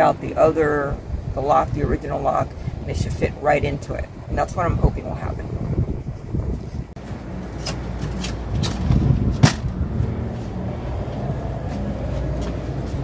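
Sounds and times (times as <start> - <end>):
low rumble: 2.5 - 13.0.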